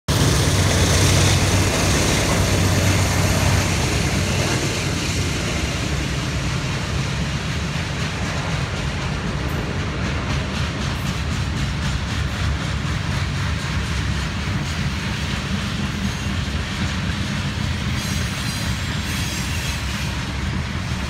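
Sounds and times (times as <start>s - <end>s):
diesel locomotive engines droning: 0.1s - 21.0s
freight cars rumbling past: 0.1s - 21.0s.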